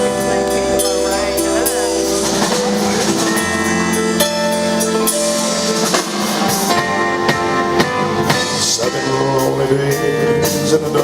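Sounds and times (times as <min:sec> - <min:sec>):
drum kit beat: 0:00.0 - 0:11.0
live band playing: 0:00.0 - 0:11.0.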